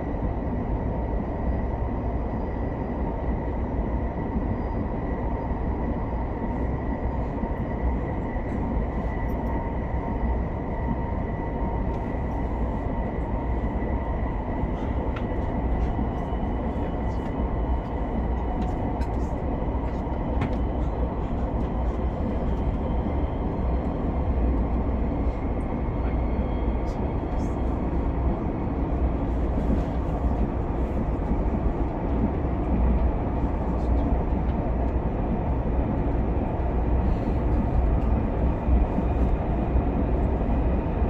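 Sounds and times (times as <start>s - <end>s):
train wheels rumbling on rail: 3.4s - 41.0s.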